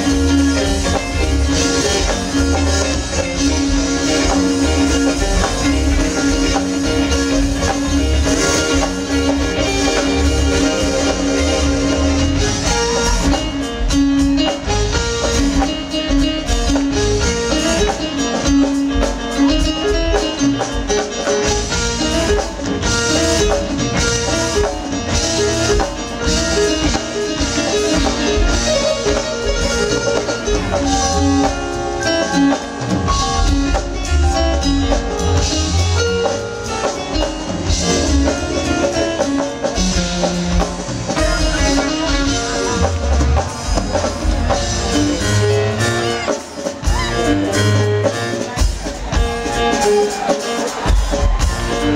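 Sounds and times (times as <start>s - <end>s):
bass and drums: 0.0s - 51.9s
electronic keyboards: 0.0s - 51.9s.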